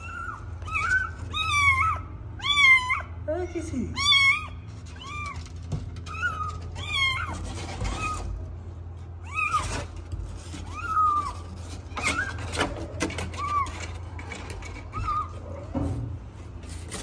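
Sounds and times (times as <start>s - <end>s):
kittens mewing: 0.0s - 15.8s.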